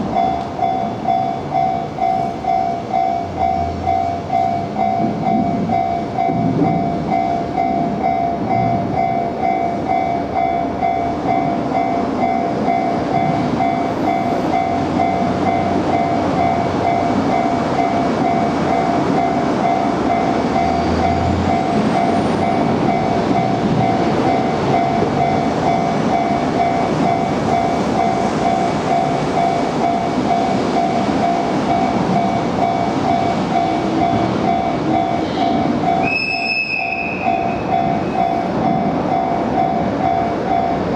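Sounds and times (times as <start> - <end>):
railway crossing bell ringing: 0.0 - 40.9
train wheels on rails: 0.0 - 40.9.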